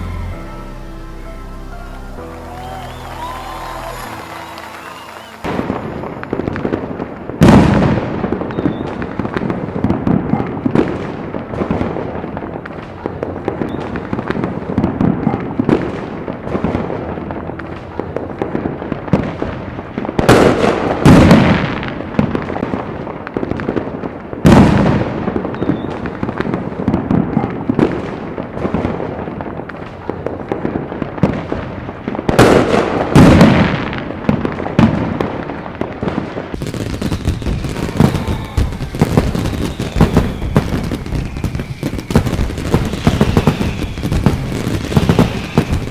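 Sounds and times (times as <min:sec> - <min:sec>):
fireworks big bangs: 0:00.0 - 0:45.9
fireworks crackling and popping: 0:00.0 - 0:45.9.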